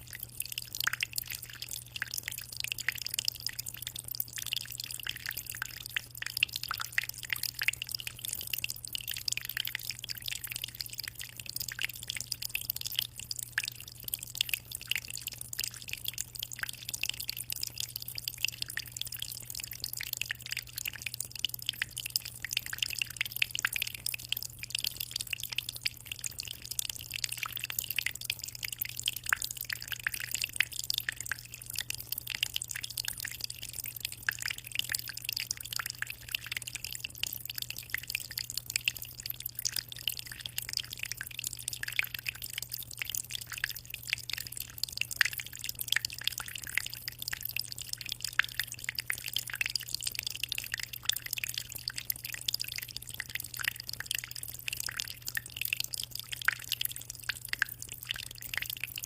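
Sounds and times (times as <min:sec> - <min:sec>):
water dripping and splashing: 0:00.0 - 0:59.0.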